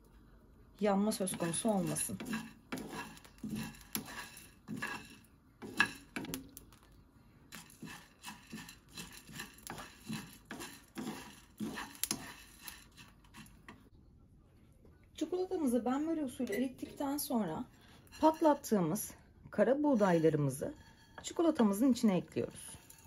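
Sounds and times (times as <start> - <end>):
wooden spoon scraping pan: 1.1 - 6.7, 7.5 - 13.9, 16.2 - 23.0.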